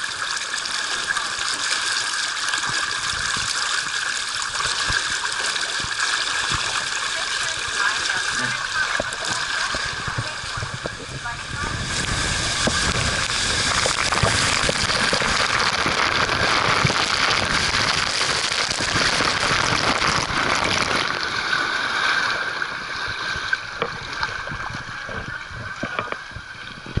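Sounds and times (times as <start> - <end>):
water rushing down a slide: 0.0 - 27.0.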